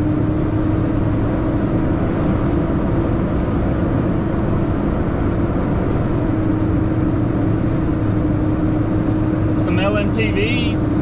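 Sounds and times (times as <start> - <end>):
truck engine drone from cab: 0.0 - 11.0.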